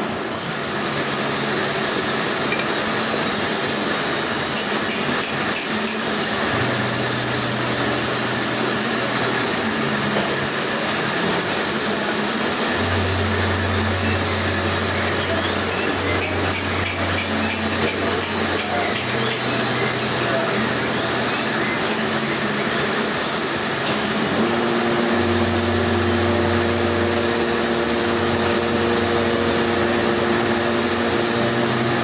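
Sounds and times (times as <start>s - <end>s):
hiss of lathe cut: 0.0s - 32.0s
metal lathe high squeal: 0.0s - 32.0s.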